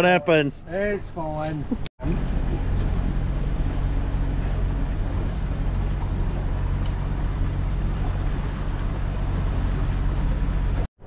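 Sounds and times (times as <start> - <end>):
wind: 0.0 - 11.0
motorboat engine humming: 1.6 - 10.9
water noise: 1.6 - 11.0.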